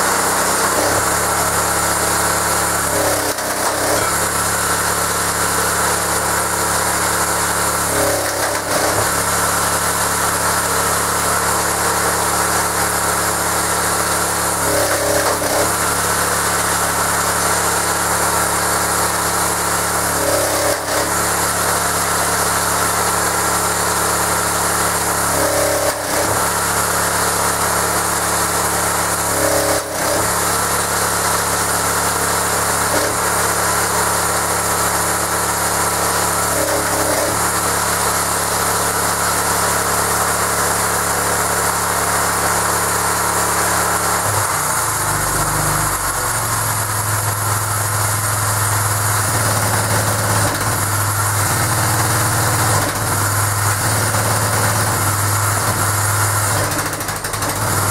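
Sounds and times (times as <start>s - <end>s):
hydraulic pump whine: 0.0s - 57.9s
petrol engine running: 0.0s - 57.9s.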